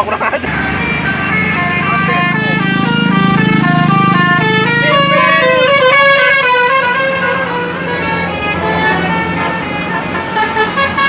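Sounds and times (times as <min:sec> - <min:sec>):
low engine hum: 0:00.4 - 0:11.0
multi-tone musical air horn: 0:00.5 - 0:11.0.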